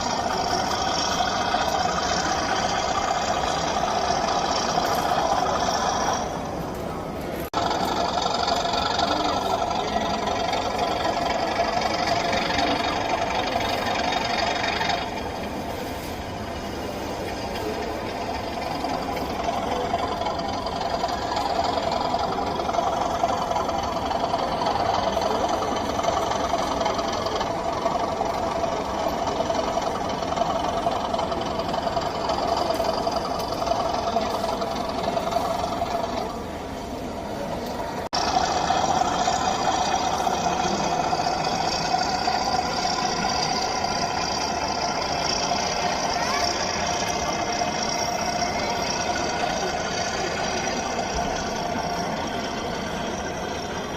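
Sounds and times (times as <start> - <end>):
electric motor hum: 0.0 - 53.9
faint hall chatter: 0.0 - 53.9
wheel and track noise: 0.0 - 53.9.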